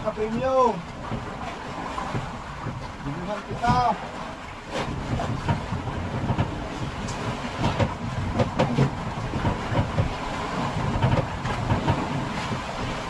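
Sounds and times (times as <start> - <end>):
knocks against the hull: 0.0 - 13.0
water noise: 0.0 - 13.0
wind: 0.0 - 13.0.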